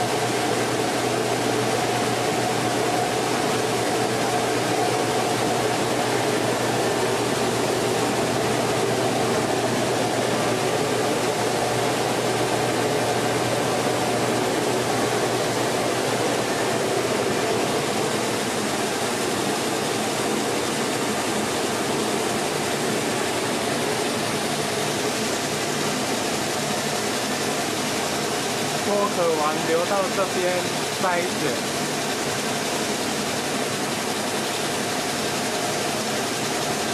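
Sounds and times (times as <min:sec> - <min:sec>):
rice husking machine running: 0:00.0 - 0:36.9.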